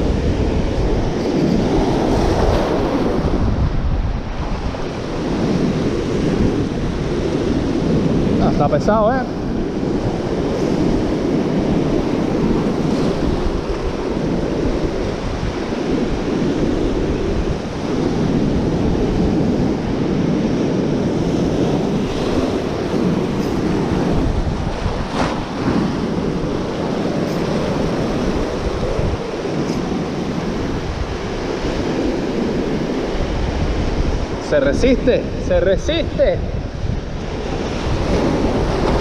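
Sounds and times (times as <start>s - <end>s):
sea surf breaking over rocks: 0.0s - 39.0s
wind buffeting microphone: 0.0s - 39.0s.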